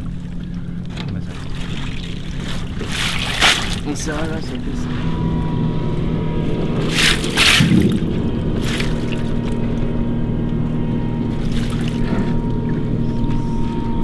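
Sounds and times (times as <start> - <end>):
water splashing: 0.0 - 5.4, 6.6 - 10.2, 11.2 - 13.9
boat engine idling: 0.0 - 14.0.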